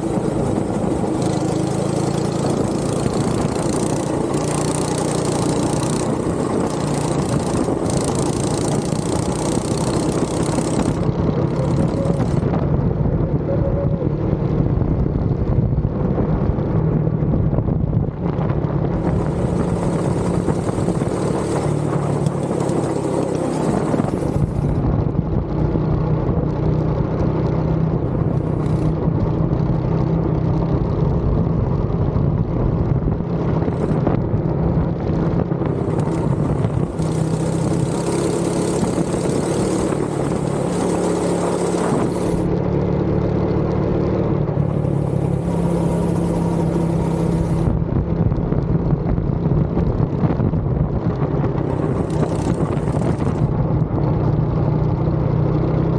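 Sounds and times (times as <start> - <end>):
go-kart engine running: 0.0 - 55.9
wind on microphone: 0.0 - 55.9.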